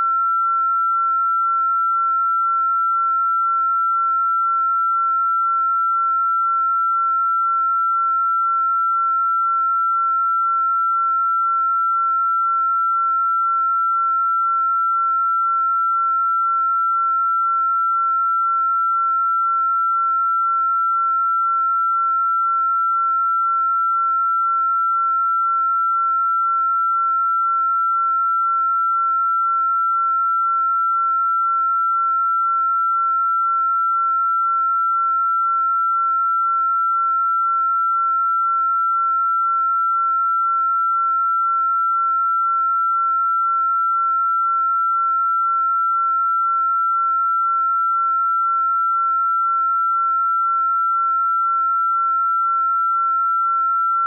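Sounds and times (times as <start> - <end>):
high-pitched electronic sine tone: 0.0 - 54.0.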